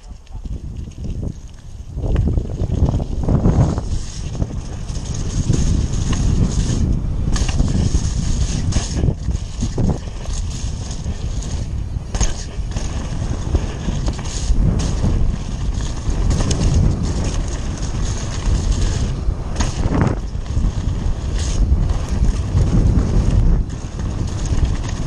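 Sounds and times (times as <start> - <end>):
bike knocking and rattling: 0.0 - 25.0
tyre rumble on dirt: 0.5 - 25.0
wind rushing: 1.9 - 25.0.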